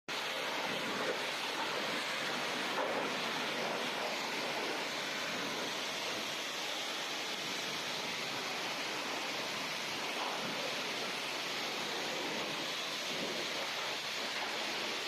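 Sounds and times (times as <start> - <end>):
water spraying onto car: 0.1 - 15.0.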